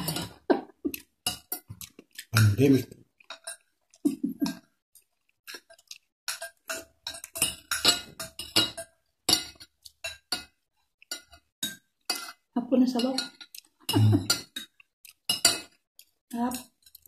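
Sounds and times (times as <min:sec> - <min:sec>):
cutlery clinking against glass bowl: 0:00.0 - 0:03.7, 0:05.5 - 0:17.0.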